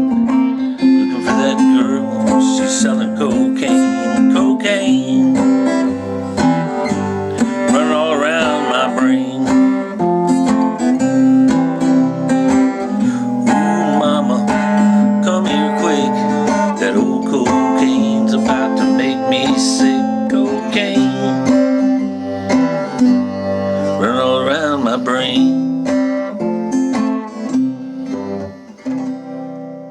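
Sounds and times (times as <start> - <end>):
acoustic guitar plucked notes: 0.0 - 29.9.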